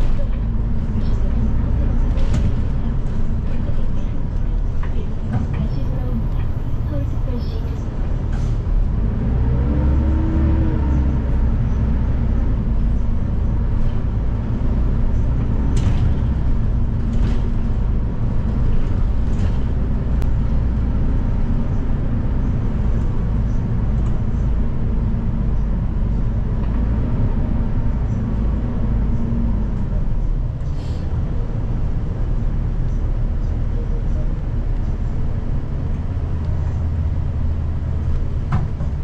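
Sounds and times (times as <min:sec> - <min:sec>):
bus engine drone: 0:00.0 - 0:39.0.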